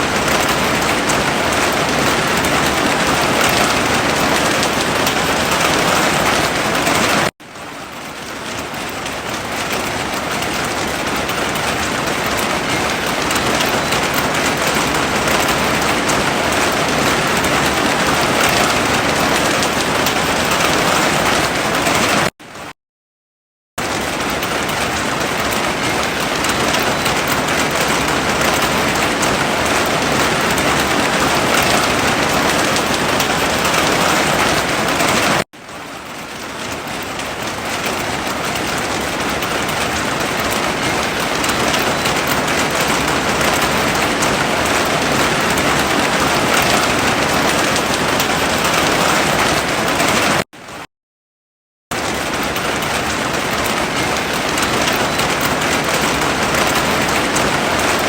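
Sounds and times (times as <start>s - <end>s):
heavy rain: 0.0s - 22.7s, 23.8s - 50.8s, 51.9s - 58.0s.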